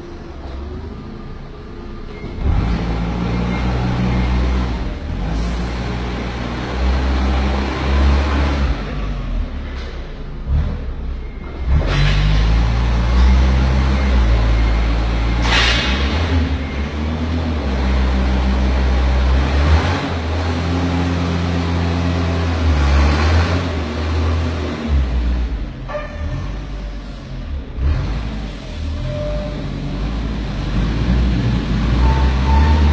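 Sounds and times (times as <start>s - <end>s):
forklift engine revving: 0.0s - 32.9s.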